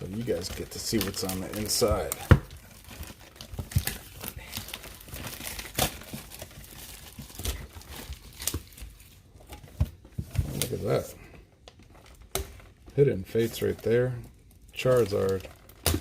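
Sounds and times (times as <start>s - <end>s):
plastic shrink-wrap crinkling: 0.0s - 16.0s.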